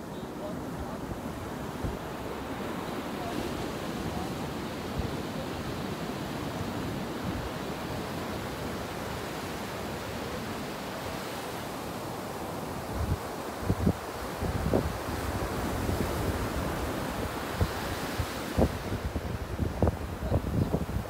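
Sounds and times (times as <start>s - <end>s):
waves washing up a beach: 0.0s - 21.0s.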